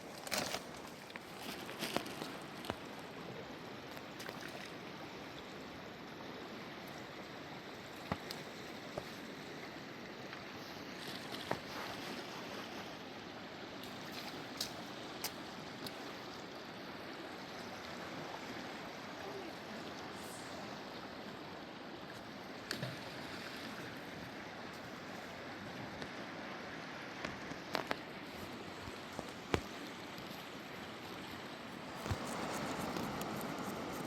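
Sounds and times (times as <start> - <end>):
river water flowing: 0.0 - 34.0.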